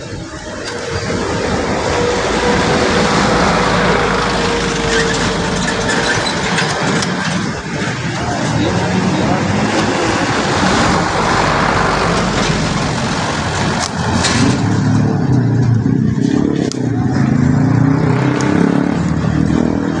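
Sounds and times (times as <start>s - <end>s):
heavy engine running: 0.0s - 20.0s
vehicle rushing by: 0.0s - 20.0s.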